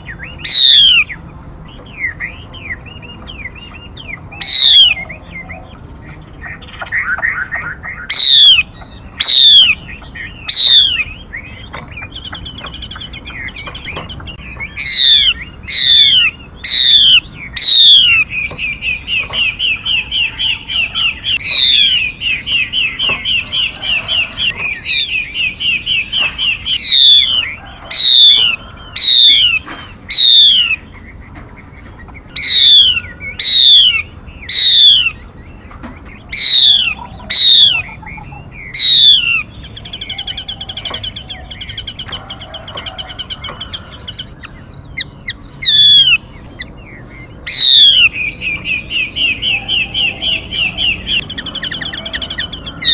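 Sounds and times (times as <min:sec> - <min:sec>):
songbird whistled calls: 0:00.0 - 0:52.9.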